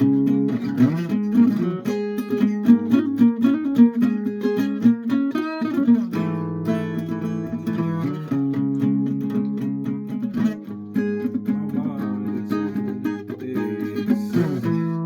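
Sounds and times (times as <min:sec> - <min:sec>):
guitar strummed chords: 0:00.0 - 0:15.0
plucked guitar notes sliding: 0:00.0 - 0:15.0.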